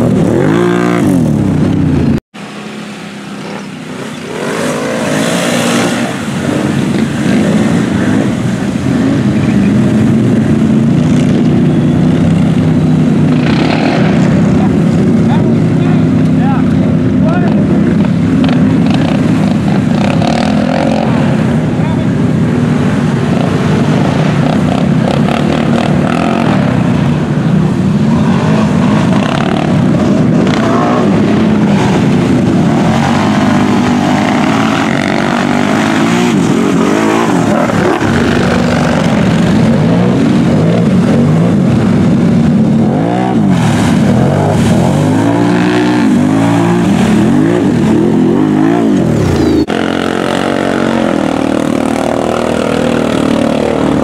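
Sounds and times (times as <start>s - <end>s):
atv engine revving: 0.0s - 54.0s
quad churning through mud: 0.0s - 54.0s.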